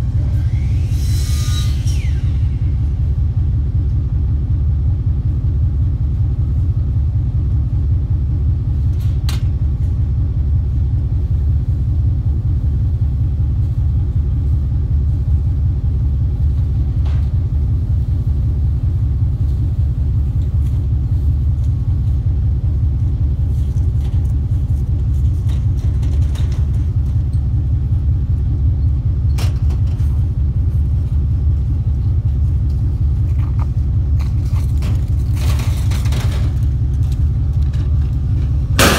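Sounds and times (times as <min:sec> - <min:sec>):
vehicle rumble from inside cab: 0:00.0 - 0:38.9.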